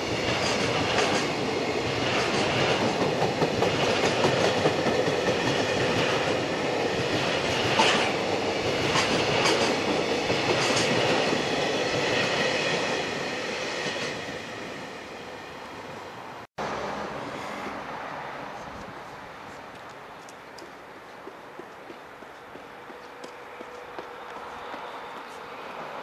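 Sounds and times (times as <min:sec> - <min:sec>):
freight train rolling past: 0:00.0 - 0:18.6, 0:20.8 - 0:26.0.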